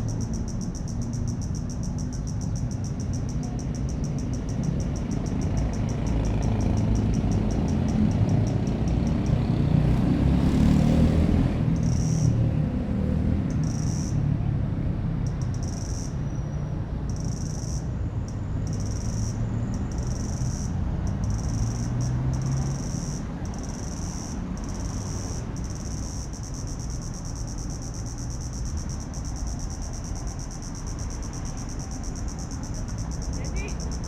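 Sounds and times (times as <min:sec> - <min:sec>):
high-pitched insect chirring: 0:00.0 - 0:09.6, 0:11.8 - 0:12.4, 0:13.5 - 0:14.3, 0:15.2 - 0:16.4, 0:17.1 - 0:34.0
low rumble of city traffic: 0:00.0 - 0:34.0.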